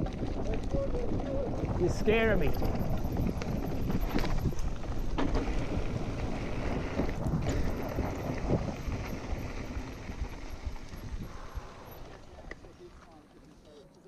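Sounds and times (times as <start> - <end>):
wind on microphone: 0.0 - 12.2
bike rattling over bumps: 0.0 - 13.3
bike tyres rumbling on gravel: 0.0 - 13.3.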